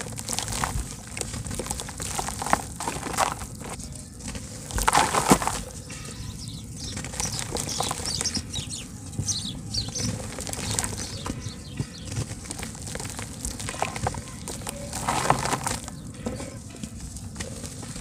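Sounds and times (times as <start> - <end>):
crackly rustling: 0.0 - 18.0
dirt crumbling in hands: 0.0 - 18.0.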